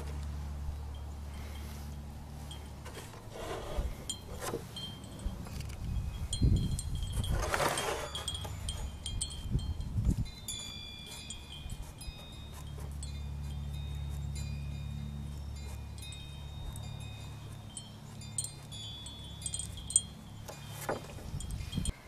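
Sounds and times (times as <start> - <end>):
steady low hum: 0.0 - 7.3, 8.1 - 22.0
wind chimes ringing: 0.7 - 3.0, 3.9 - 22.0.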